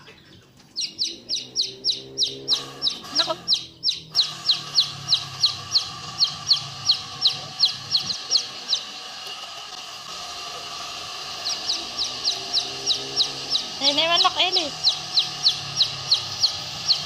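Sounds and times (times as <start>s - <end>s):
bird chirping with falling pitch: 0.0s - 9.0s, 11.3s - 17.0s.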